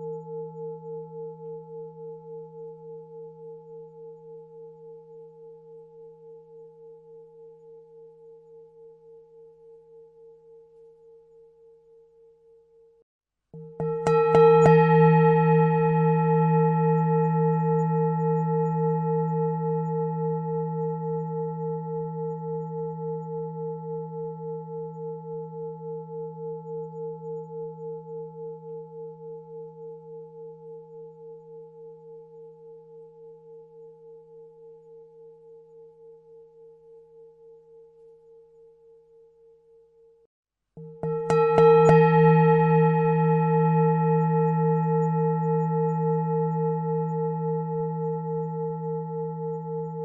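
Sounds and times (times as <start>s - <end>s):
singing bowl ringing: 0.0s - 13.0s, 13.6s - 50.0s.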